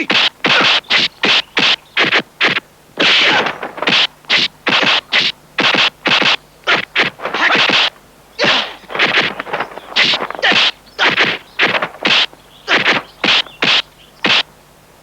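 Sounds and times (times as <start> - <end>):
punch and kick hits: 0.1 - 14.4.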